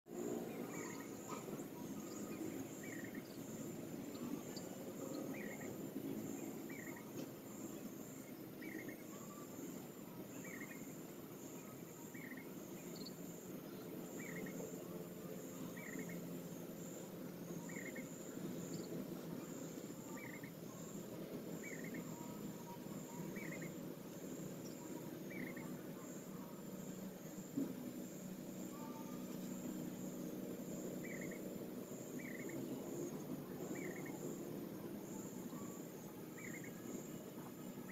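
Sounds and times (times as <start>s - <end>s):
insects chirring: 0.1s - 37.9s
short insect chirp: 0.3s - 37.9s.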